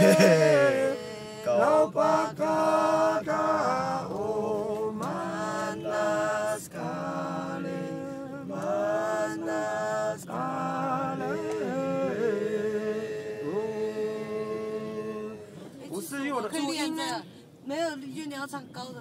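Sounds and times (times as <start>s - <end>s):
man singing unaccompanied: 0.0s - 15.4s.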